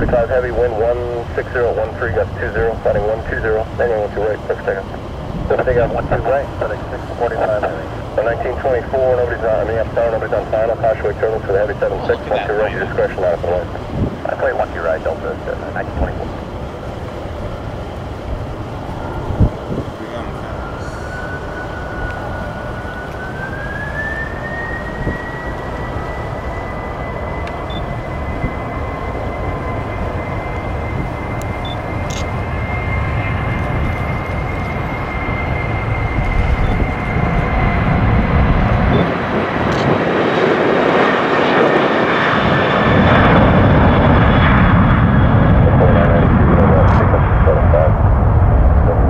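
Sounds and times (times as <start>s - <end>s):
jet engines spooling up: 0.0s - 49.0s.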